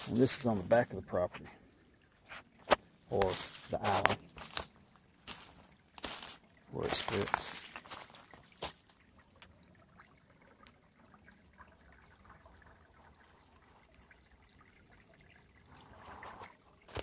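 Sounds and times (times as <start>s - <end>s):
faint creek trickling: 0.0s - 17.0s.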